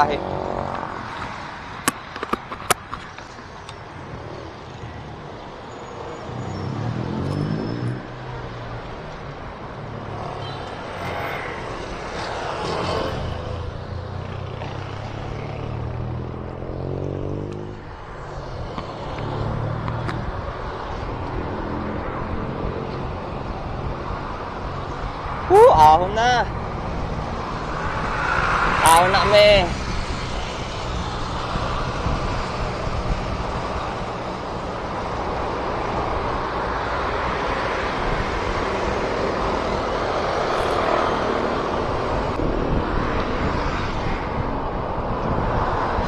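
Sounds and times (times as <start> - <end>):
motor vehicles passing: 0.0 - 46.0
wind and road noise: 0.0 - 46.0.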